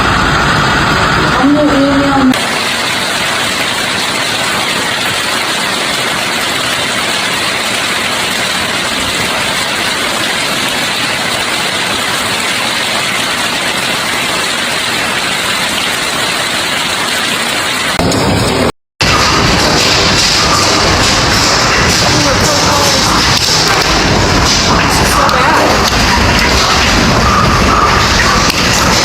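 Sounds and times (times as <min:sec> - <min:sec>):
heavy hail clattering: 0:00.0 - 0:29.0.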